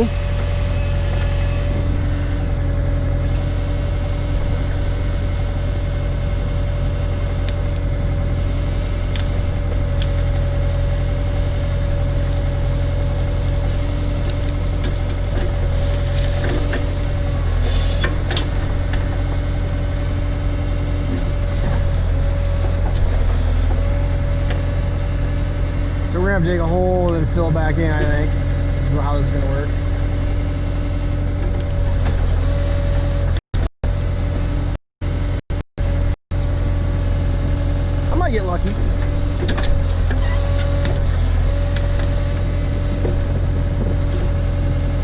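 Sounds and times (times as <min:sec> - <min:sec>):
steady whine: 0:00.0 - 0:39.7
backhoe engine running: 0:00.0 - 0:45.0.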